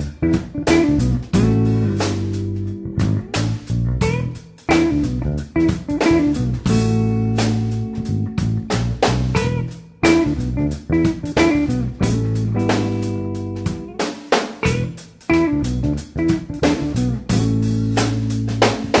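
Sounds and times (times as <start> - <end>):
guitar band music: 0.0 - 19.0.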